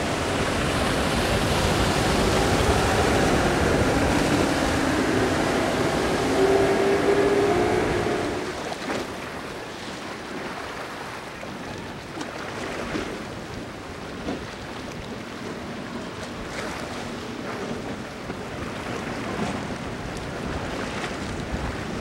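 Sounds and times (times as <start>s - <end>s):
wind on microphone: 0.0s - 9.7s, 12.7s - 22.0s
surf and choppy water: 0.0s - 22.0s.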